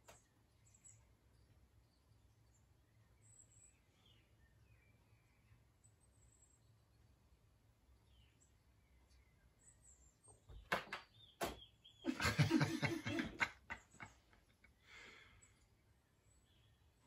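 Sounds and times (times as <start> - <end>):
birdsong from tv: 0.0 - 17.0.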